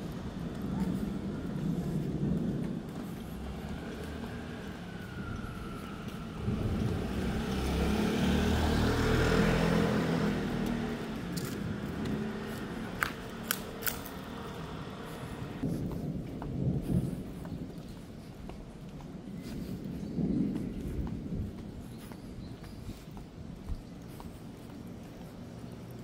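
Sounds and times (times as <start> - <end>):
thunder rumbling: 0.0 - 24.2.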